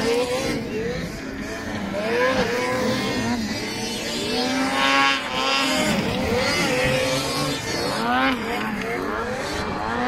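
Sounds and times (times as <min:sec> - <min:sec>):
snowmobile engines revving: 0:00.0 - 0:10.0.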